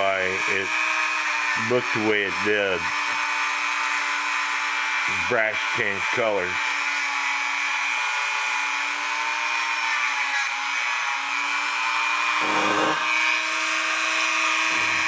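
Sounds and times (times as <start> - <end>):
rotary tool high whine: 0.0 - 15.0.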